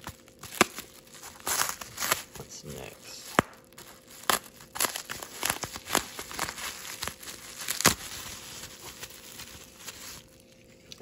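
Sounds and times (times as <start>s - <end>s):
bubble wrap crinkling: 0.0s - 11.0s
sharp crackles: 0.0s - 11.0s.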